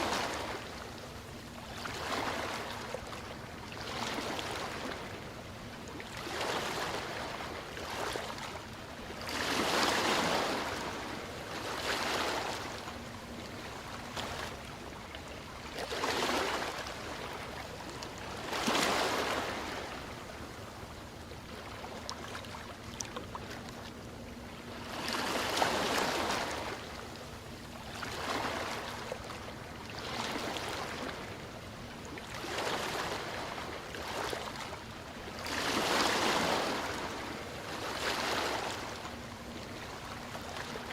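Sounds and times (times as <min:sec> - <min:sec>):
ocean waves washing ashore: 0:00.0 - 0:40.9.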